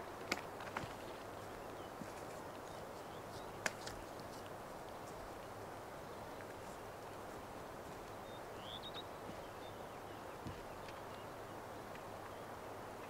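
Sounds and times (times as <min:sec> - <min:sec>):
bird chirp: 0:00.9 - 0:07.3, 0:08.0 - 0:12.8.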